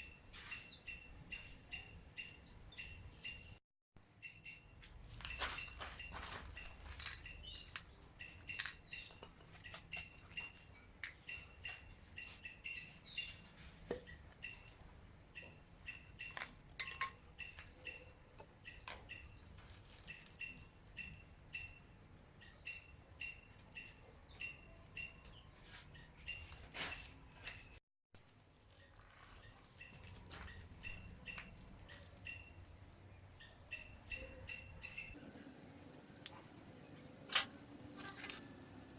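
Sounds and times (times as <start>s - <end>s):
bird chirping: 0.0s - 3.6s, 4.2s - 4.7s, 5.5s - 16.4s, 17.4s - 26.5s, 28.8s - 38.9s.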